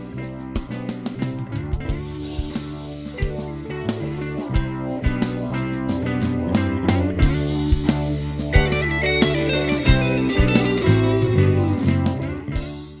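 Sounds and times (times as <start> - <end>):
overdriven electric guitar: 0.0 - 13.0.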